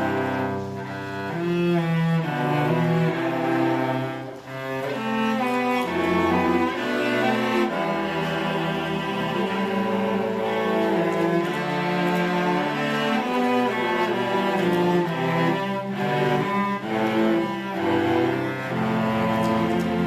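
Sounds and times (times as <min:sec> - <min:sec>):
cellos and double basses: 0:00.0 - 0:20.0
string ensemble playing: 0:00.0 - 0:20.0.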